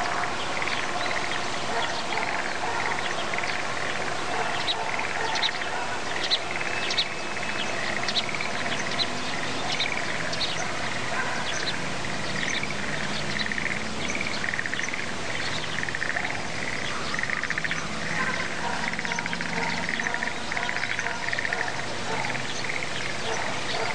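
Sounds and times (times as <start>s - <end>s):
frogs croaking in chorus: 0.0s - 23.9s.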